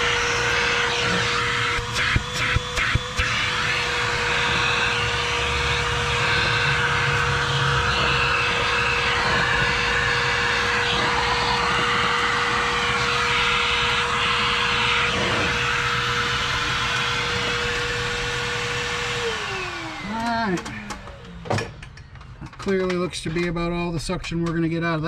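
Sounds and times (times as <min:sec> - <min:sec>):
vacuum cleaner running: 0:00.0 - 0:22.6.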